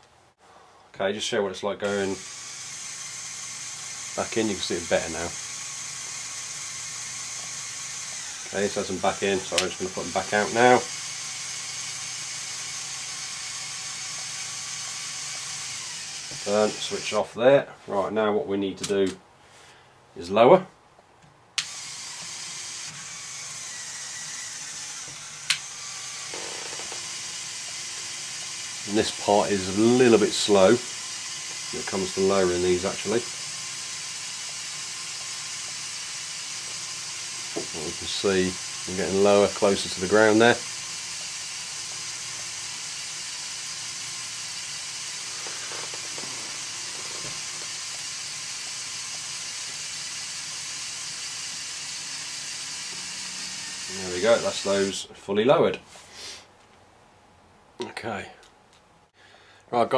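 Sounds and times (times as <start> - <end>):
toy electric motor running: 1.8 - 17.2, 21.6 - 55.0.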